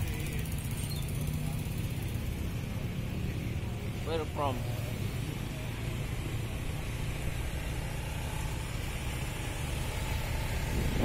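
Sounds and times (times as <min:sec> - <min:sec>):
road noise: 0:00.0 - 0:11.0
scooter engine running: 0:00.0 - 0:11.0.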